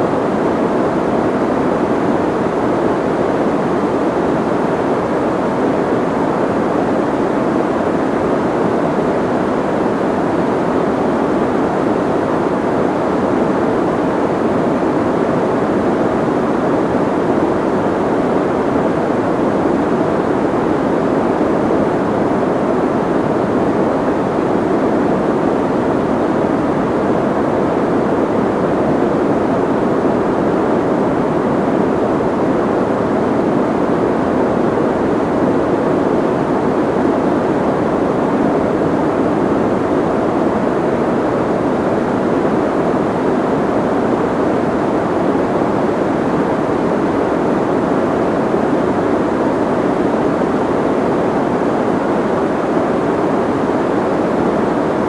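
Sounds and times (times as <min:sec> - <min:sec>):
muffled white noise hiss: 0:00.0 - 0:55.0.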